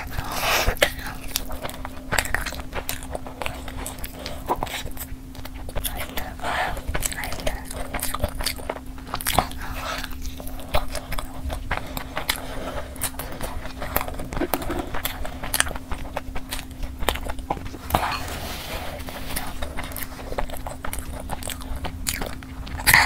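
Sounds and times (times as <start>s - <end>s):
biting and chewing chicken: 0.0s - 23.0s.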